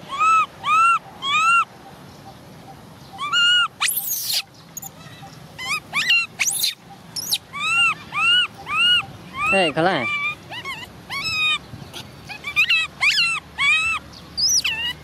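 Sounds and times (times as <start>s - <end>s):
baby monkey crying: 0.0s - 1.7s, 3.1s - 15.0s.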